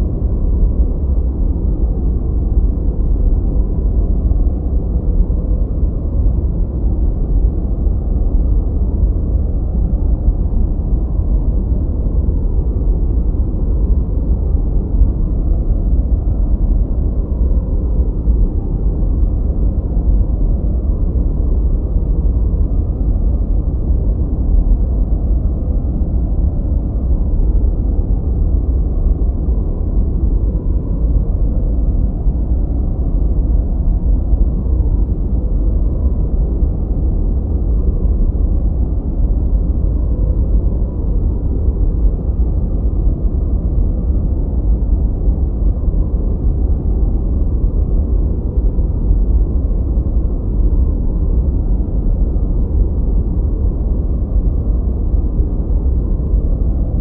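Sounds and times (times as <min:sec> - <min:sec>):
deep muffled white noise: 0:00.0 - 0:57.0.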